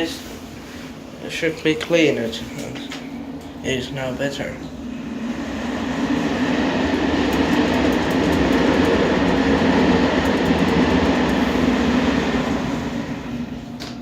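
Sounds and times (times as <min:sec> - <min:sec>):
elevator car rumbling: 0:01.3 - 0:14.0.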